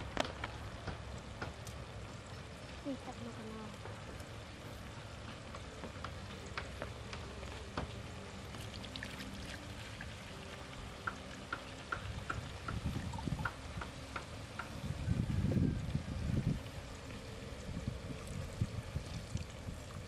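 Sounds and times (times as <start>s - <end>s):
coconut water trickling into jug: 0.0s - 20.0s.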